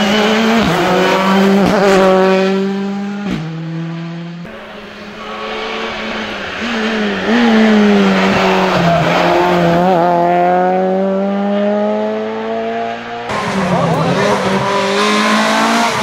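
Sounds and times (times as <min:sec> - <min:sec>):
rally car engine passing: 0:00.0 - 0:16.0.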